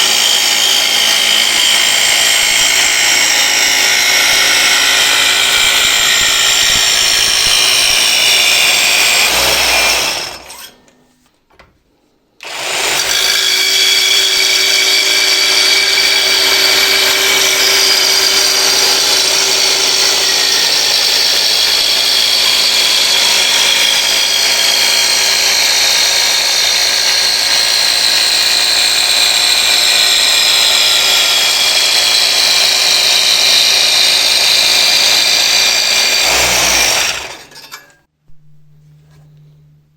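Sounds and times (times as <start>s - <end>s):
power tool cutting with high whine: 0.0s - 10.8s, 12.4s - 37.5s.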